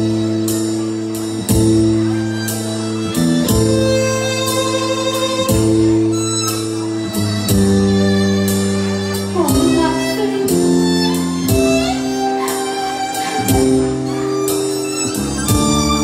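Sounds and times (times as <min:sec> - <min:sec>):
held instrumental chords: 0:00.0 - 0:16.0.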